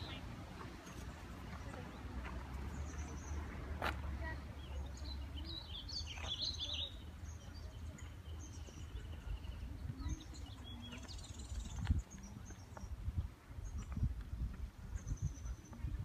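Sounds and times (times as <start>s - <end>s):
footsteps on paved path: 0.0s - 16.0s
small birds chirping: 0.0s - 16.0s.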